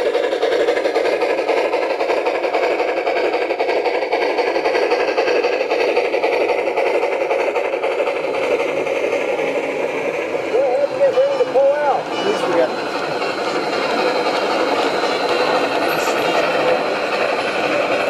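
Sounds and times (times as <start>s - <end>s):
model steam locomotive chuffing: 0.0s - 18.0s
model train wheels and gears: 0.0s - 18.0s.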